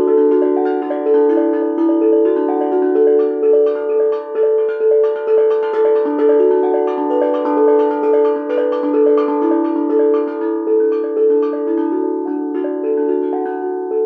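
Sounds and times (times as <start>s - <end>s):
steel drum ringing notes: 0.0s - 14.0s.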